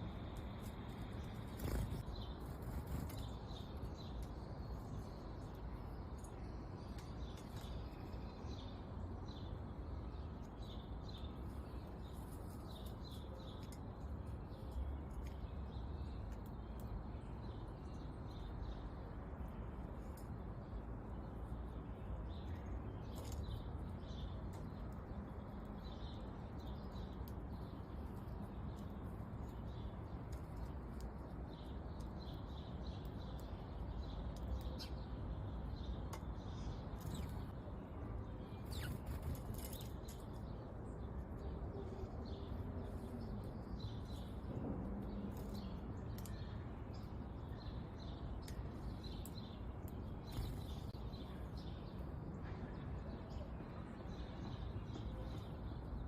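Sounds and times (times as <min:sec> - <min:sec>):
low background noise: 0:00.0 - 0:56.0
songbirds chirping: 0:00.0 - 0:56.0.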